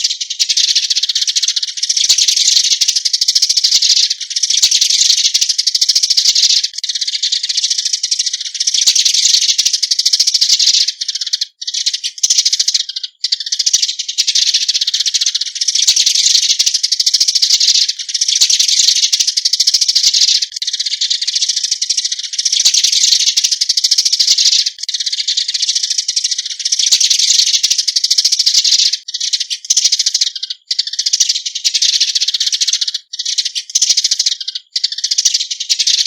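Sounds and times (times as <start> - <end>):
sparrows chattering: 0.0 - 36.0.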